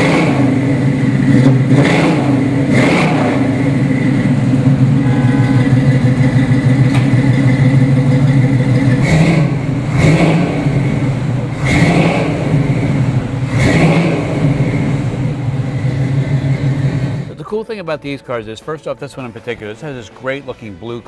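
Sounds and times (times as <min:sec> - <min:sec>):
car engine idling and revving: 0:00.0 - 0:17.4.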